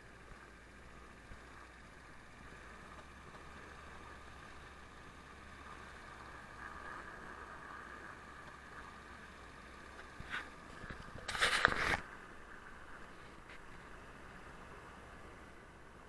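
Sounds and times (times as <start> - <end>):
muffled car driving on snow: 0.0 - 16.0.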